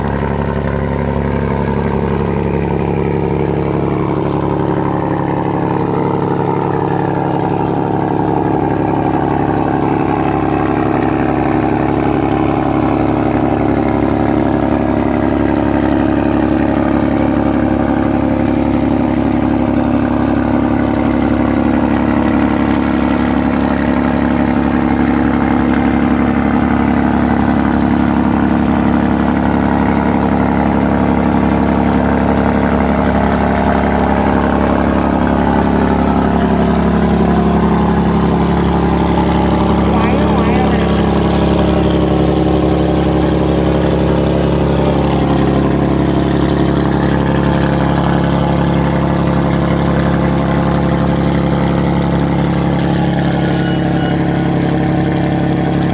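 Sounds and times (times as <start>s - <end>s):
ferry engine drone: 0.0s - 55.9s.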